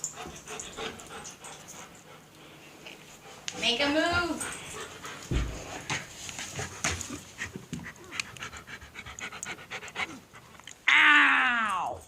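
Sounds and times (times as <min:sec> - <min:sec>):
dog panting: 0:00.0 - 0:10.6.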